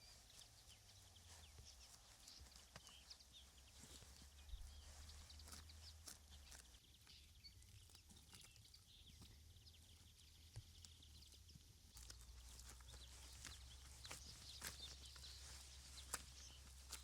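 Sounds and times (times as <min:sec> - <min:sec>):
faint clicks and crackles: 0:00.1 - 0:17.0.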